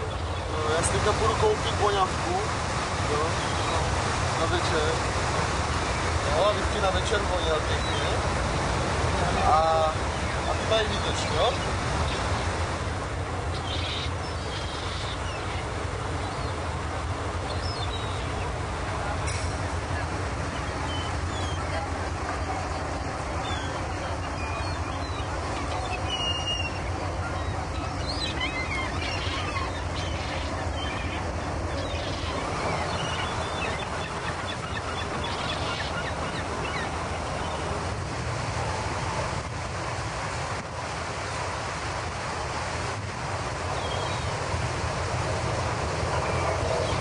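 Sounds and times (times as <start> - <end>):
churning wake: 0.0 - 47.0
ferry engine drone: 0.0 - 47.0
wind: 0.0 - 47.0.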